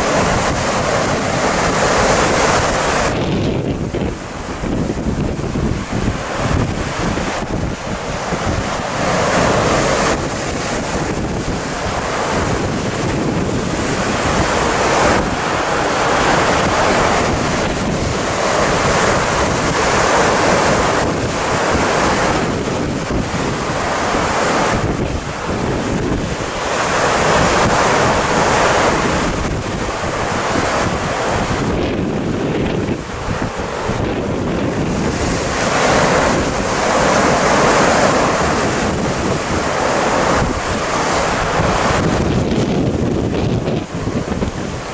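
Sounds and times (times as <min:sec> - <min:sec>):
waves breaking: 0:00.0 - 0:44.9
wind buffeting microphone: 0:00.0 - 0:44.9.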